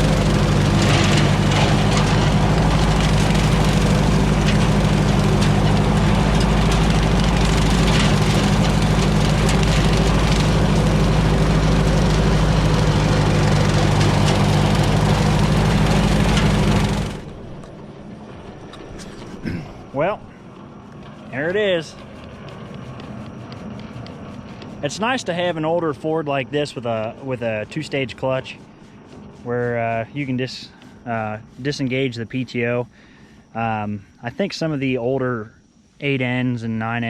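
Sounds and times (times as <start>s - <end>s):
tractor engine running: 0.0s - 33.5s.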